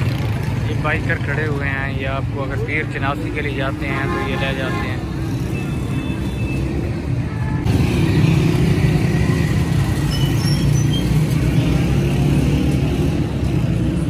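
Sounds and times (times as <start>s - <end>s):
car and motorbike engines: 0.0s - 14.0s.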